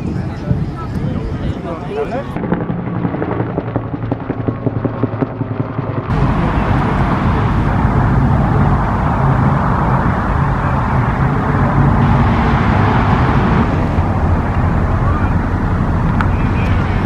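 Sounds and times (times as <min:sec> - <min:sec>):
engine rumbling: 0:00.0 - 0:17.0
outdoor noise: 0:00.0 - 0:17.0.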